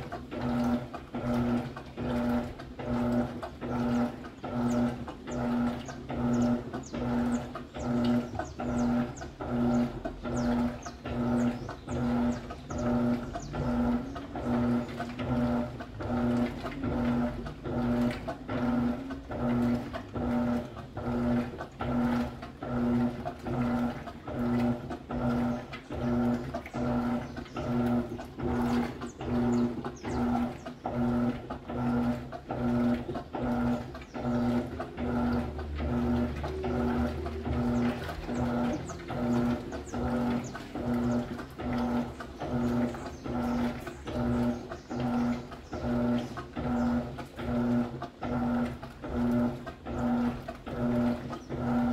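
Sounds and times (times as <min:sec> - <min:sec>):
washing machine motor pulsing hum: 0:00.0 - 0:51.9
water sloshing: 0:00.0 - 0:51.9.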